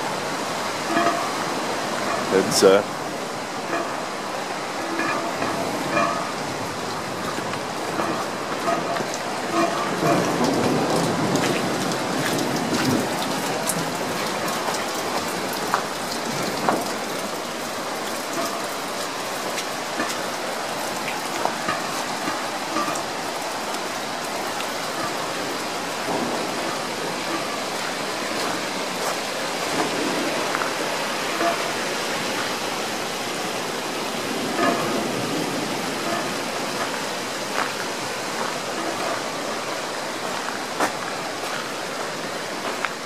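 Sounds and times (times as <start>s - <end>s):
heavy rain pouring: 0.0s - 43.0s
raindrops ticking on surfaces: 0.0s - 43.0s.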